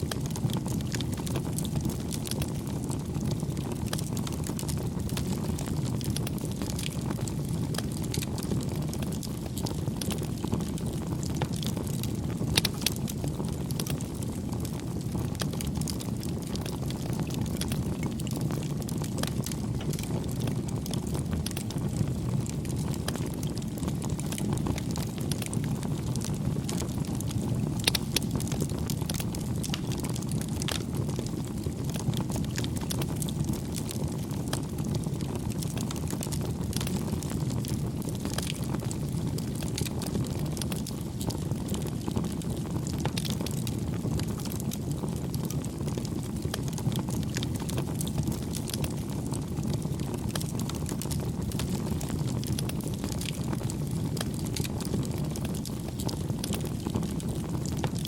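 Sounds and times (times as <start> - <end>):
campfire flames rushing: 0.0 - 58.0
fire crackling and popping: 0.0 - 58.0.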